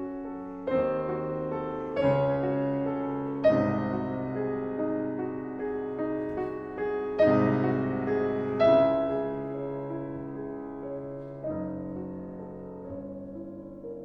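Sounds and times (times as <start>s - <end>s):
slow soft piano chords: 0.0s - 14.0s.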